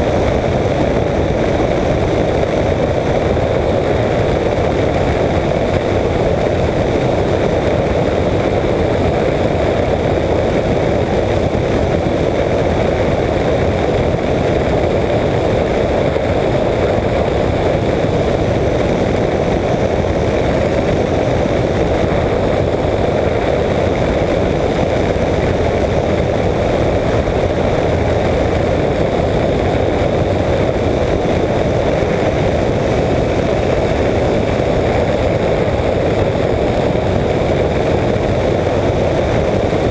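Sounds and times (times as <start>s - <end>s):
aircraft engine and propeller: 0.0s - 39.9s
rushing airflow: 0.0s - 39.9s.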